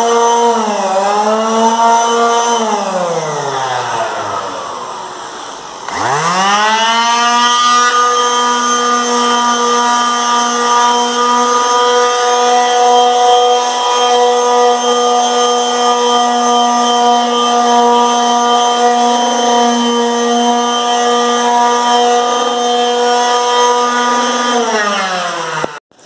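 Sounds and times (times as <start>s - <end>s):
electric sander whining: 0.0s - 26.0s.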